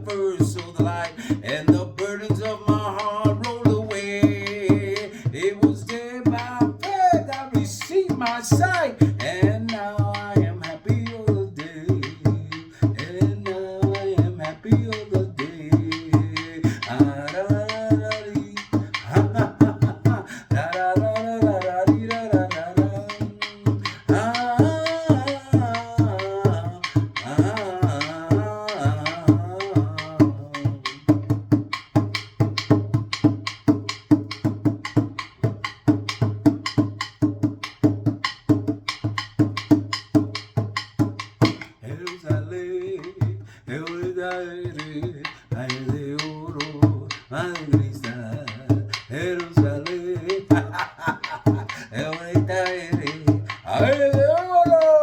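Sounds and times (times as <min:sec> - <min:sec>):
man singing: 0:00.0 - 0:37.9, 0:38.8 - 0:55.0
hand drum beating: 0:00.0 - 0:55.0.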